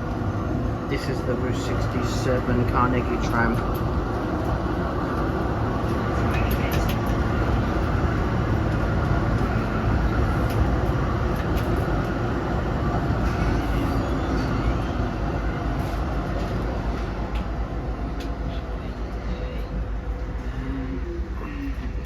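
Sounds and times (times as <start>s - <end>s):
tram wheels and motors rumbling: 0.0s - 22.0s.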